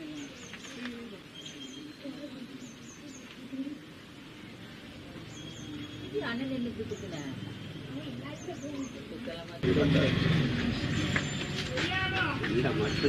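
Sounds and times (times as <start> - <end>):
faint background voices: 0.0 - 13.0
small birds chirping: 0.0 - 13.0.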